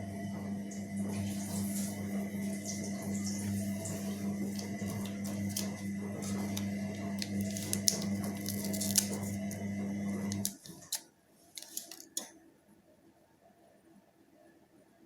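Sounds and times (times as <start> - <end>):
electrical machine hum: 0.0 - 12.6.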